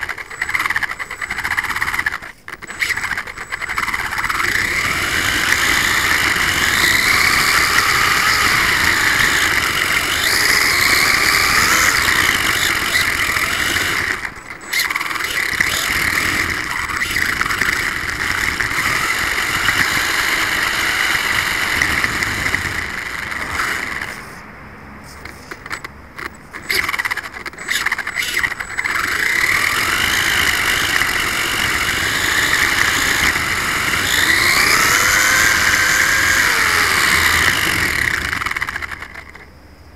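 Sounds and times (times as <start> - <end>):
road surface noise: 0.0 - 39.7
rc car motor whine: 0.0 - 39.9.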